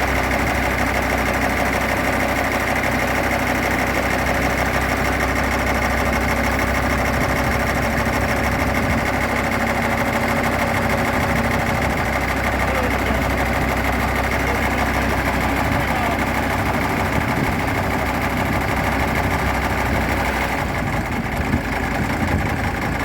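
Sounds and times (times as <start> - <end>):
farm machinery engine running: 0.0 - 23.0.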